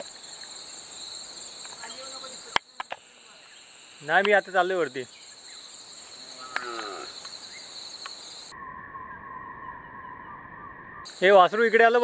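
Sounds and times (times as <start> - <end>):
crickets and insects chirring: 0.0 - 9.7, 11.0 - 12.0.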